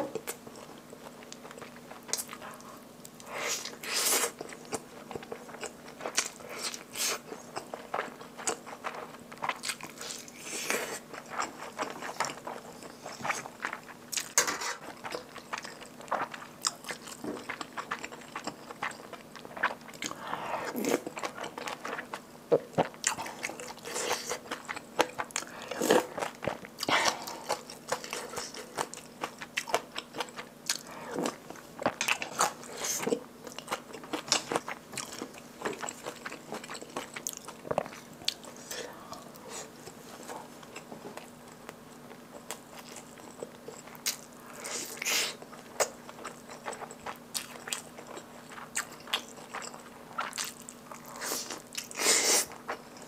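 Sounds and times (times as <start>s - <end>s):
person chewing: 0.0s - 53.0s.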